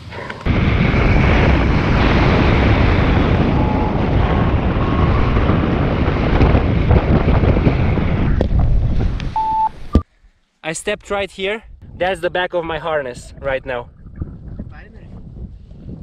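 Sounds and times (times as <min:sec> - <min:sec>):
strong wind on microphone: 0:00.4 - 0:10.0, 0:11.7 - 0:16.0.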